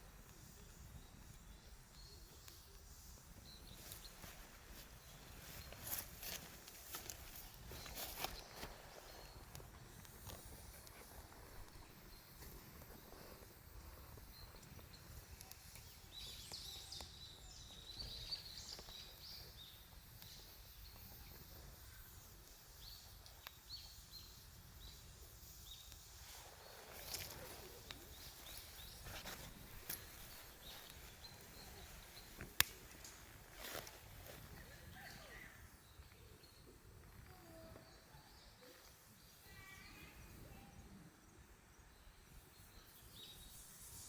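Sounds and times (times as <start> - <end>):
campfire burning: 0.0 - 37.4
fire crackles: 0.0 - 37.5.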